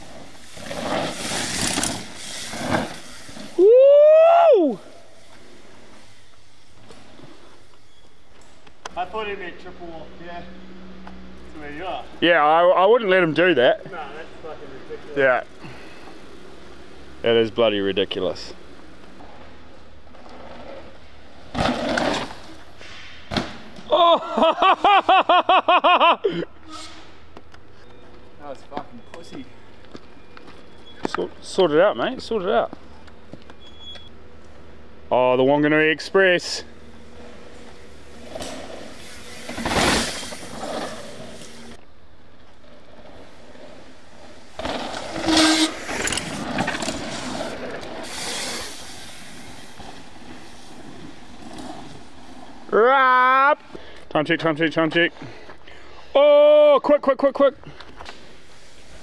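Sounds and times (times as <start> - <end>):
bike tyres rushing over dirt: 0.0 - 9.6, 10.6 - 24.1, 27.2 - 56.2, 57.6 - 59.0.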